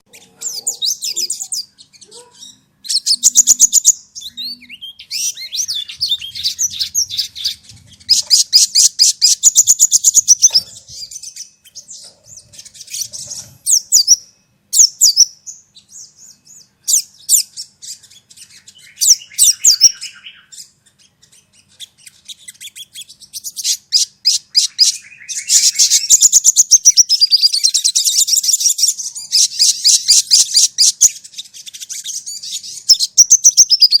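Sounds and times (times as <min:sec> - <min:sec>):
bird chirping rapidly: 0:00.0 - 0:34.0.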